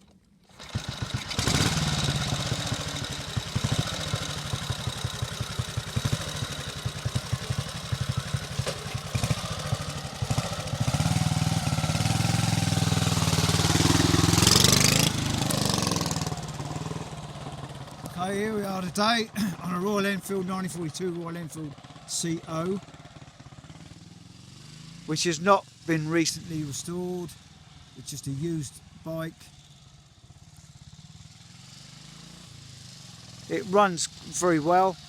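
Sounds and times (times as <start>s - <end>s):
single-cylinder engine running: 0.0s - 35.0s.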